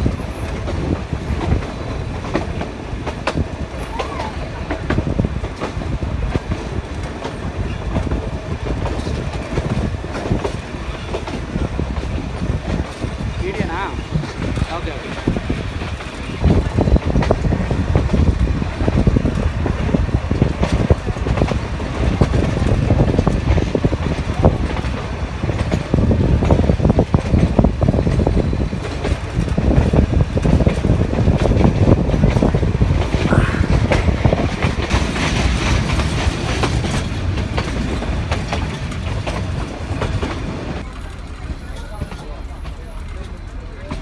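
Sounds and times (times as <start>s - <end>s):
train carriages rumbling: 0.0s - 44.0s
wheels clacking over rail joints: 0.0s - 44.0s.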